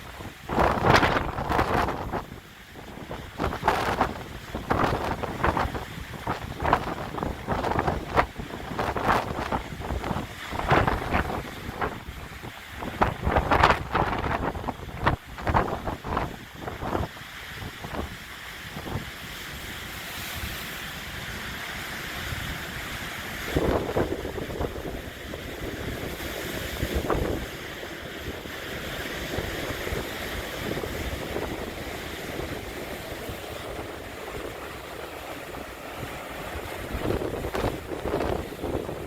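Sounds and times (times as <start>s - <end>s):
wind buffeting microphone: 0.0s - 20.5s, 23.4s - 39.0s
sea waves breaking: 0.0s - 39.0s.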